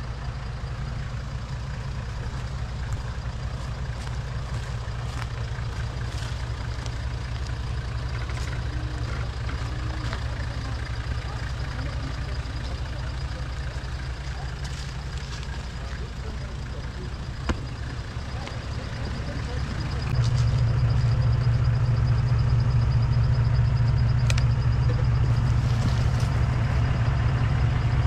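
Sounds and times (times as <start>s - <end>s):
truck engine low rumble: 0.0s - 28.0s.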